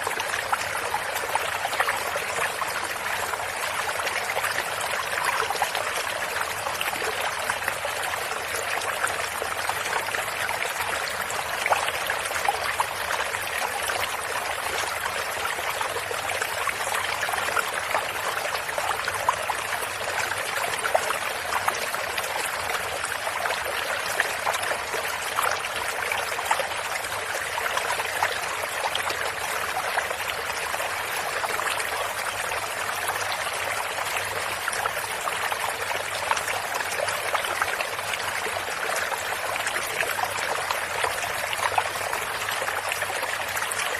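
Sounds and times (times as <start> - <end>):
stream trickling and splashing: 0.0 - 43.9.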